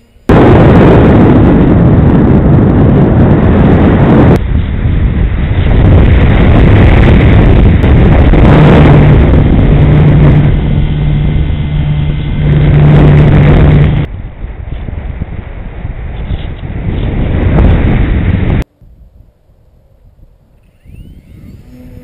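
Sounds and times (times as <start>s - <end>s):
propeller and motor hum: 0.0s - 22.0s
wind rushing over microphone: 0.0s - 22.0s.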